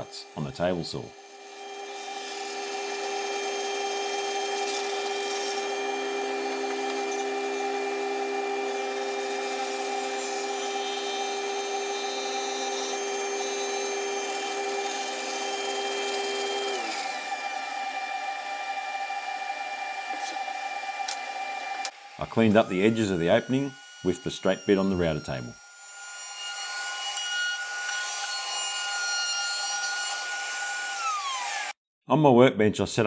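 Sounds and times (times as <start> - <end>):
table saw cutting: 0.0 - 31.8.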